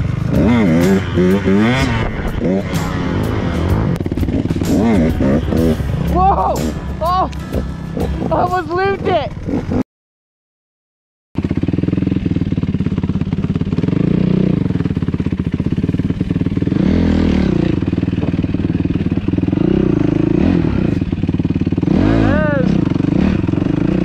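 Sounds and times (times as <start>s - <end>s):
dirt bike engine revving: 0.0s - 9.8s, 11.4s - 24.0s.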